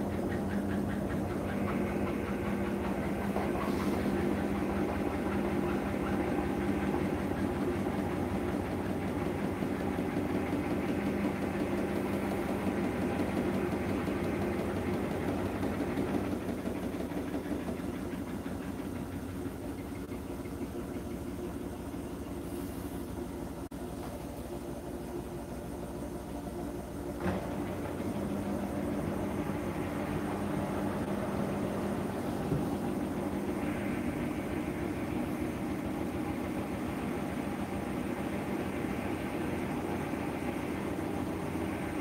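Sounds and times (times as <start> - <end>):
washing machine drum humming: 0.0 - 42.0.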